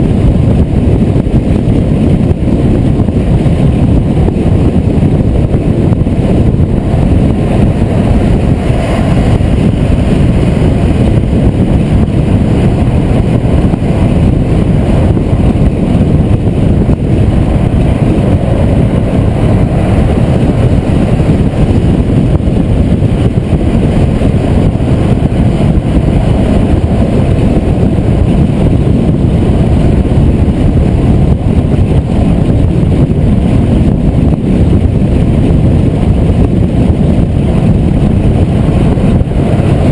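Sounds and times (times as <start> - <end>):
car wind and road rumble: 0.0 - 39.9.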